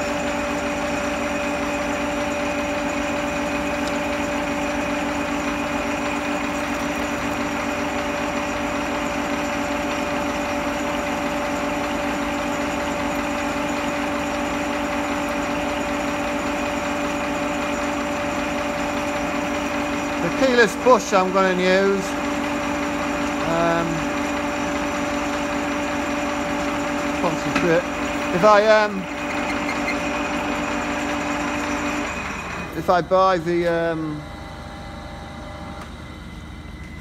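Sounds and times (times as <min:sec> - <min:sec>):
metal lathe running: 0:00.0 - 0:37.0.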